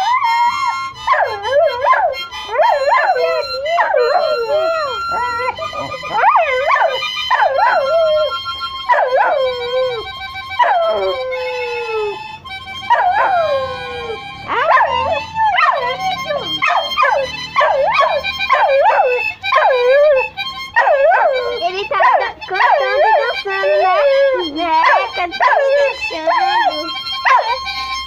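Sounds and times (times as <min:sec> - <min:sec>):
dog howling: 0:00.0 - 0:28.0
held music notes: 0:00.0 - 0:28.0.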